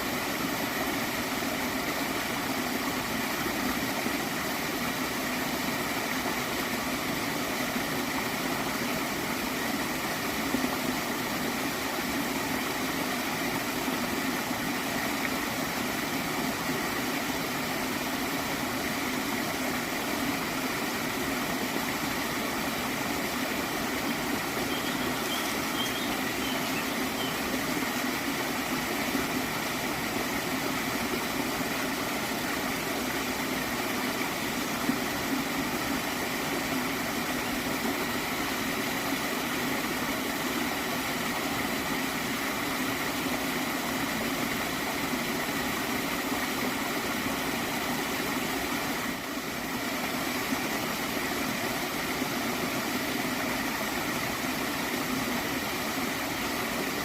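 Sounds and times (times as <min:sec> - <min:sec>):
stream water flowing and gurgling: 0:00.0 - 0:57.0.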